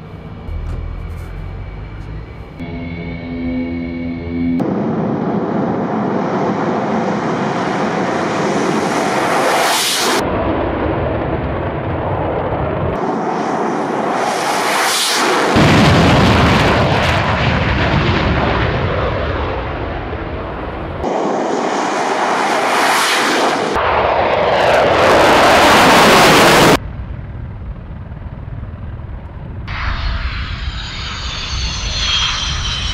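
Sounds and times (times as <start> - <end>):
jet engines roaring: 0.0 - 26.9, 29.5 - 32.9.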